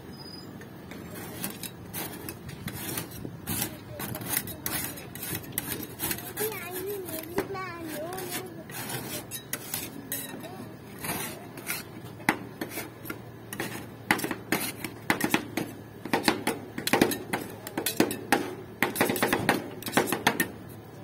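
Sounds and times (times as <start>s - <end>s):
metal spatulas clacking and scraping: 1.2s - 20.6s.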